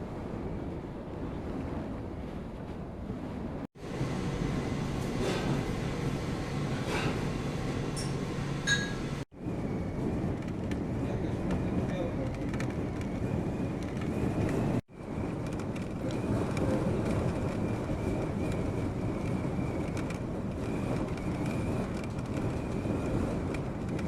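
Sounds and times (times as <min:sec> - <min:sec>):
blizzard wind blowing hard: 0:00.0 - 0:24.0.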